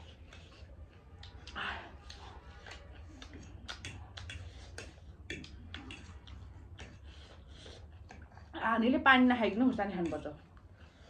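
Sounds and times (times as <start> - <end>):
eating sounds: 0.0 - 11.0.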